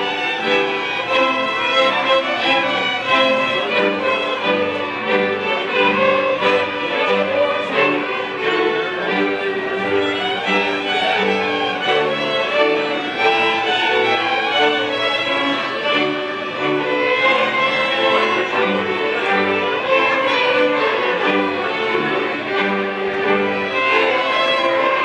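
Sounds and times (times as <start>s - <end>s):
fiddles playing folk music: 0.0s - 25.0s.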